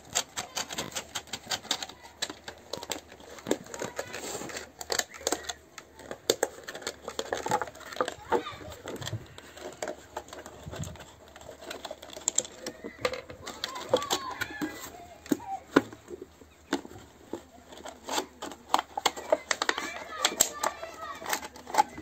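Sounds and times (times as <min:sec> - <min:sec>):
plastic bottle clicking and crinkling: 0:00.0 - 0:22.0.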